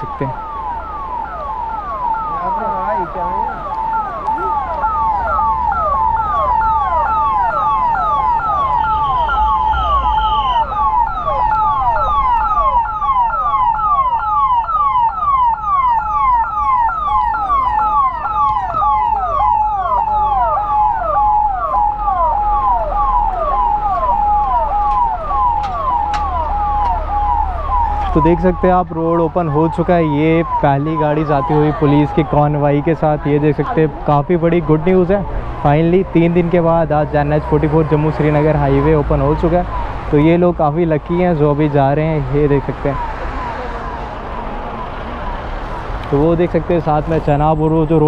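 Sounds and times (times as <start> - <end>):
low traffic rumble: 0.0 - 48.0
police siren: 0.0 - 48.0.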